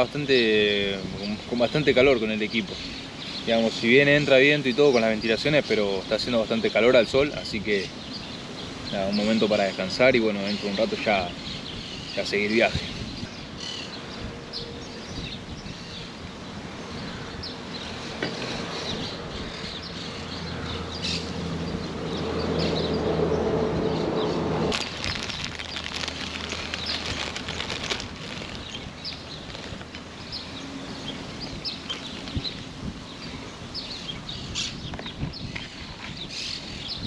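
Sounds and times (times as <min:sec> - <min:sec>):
small birds chirping: 0:00.0 - 0:37.0
wind: 0:00.0 - 0:37.0.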